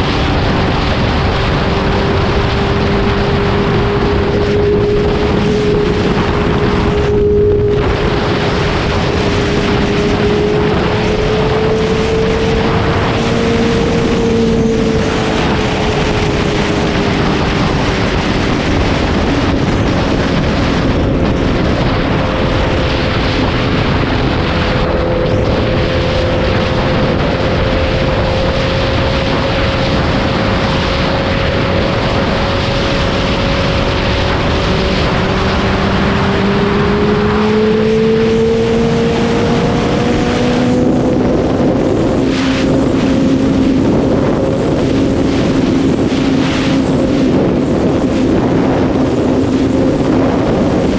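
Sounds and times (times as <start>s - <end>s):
motorcycle engine droning: 0.0s - 50.9s
wind rush on microphone: 0.0s - 50.9s.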